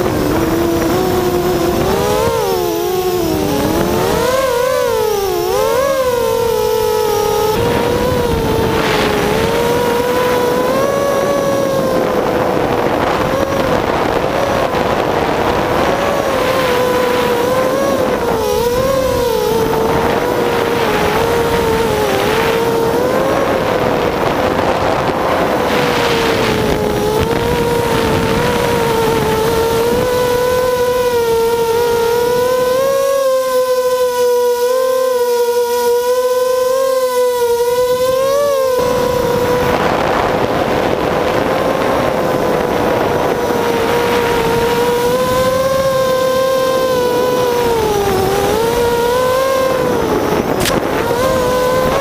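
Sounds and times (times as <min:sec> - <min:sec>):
quadcopter motors whining: 0:00.0 - 0:52.0
wind noise: 0:00.0 - 0:52.0.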